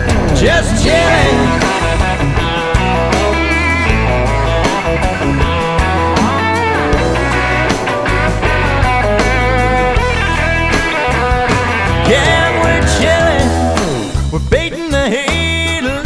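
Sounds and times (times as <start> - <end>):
country rock instrumental: 0.0 - 16.0
guitar: 0.0 - 16.0.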